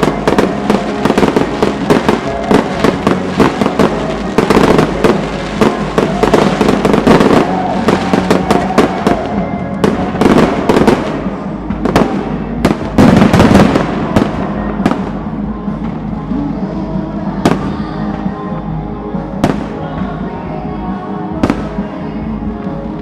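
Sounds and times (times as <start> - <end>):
fireworks bangs and crackling: 0.0 - 16.6, 17.4 - 18.7, 19.3 - 20.4, 21.2 - 23.0
music playing: 0.0 - 23.0.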